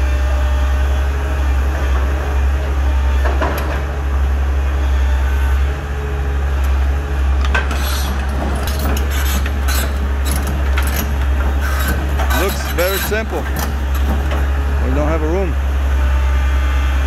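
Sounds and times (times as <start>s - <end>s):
diesel engine droning: 0.0s - 17.0s
steel tracks clanking and scraping: 0.0s - 17.0s.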